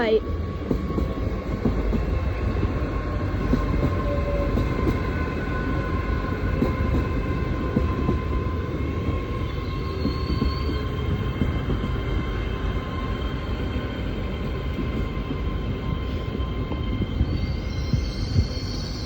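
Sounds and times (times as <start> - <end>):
train diesel engine rumble: 0.0 - 19.0.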